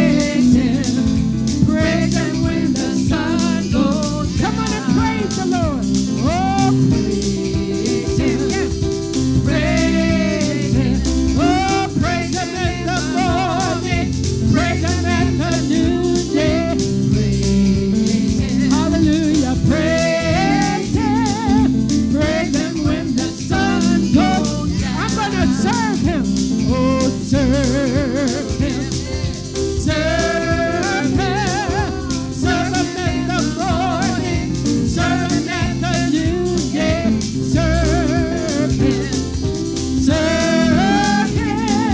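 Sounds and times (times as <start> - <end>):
gospel band accompaniment: 0.0 - 41.9
person singing with vibrato: 0.0 - 41.9.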